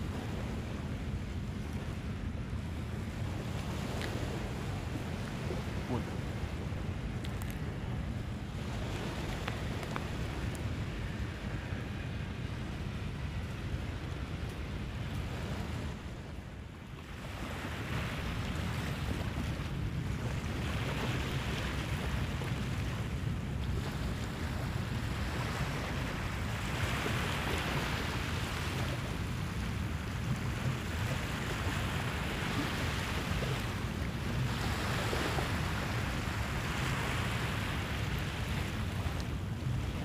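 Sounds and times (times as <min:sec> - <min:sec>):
small waves washing onto sand: 0:00.0 - 0:40.0
wind rumble on microphone: 0:00.0 - 0:40.0.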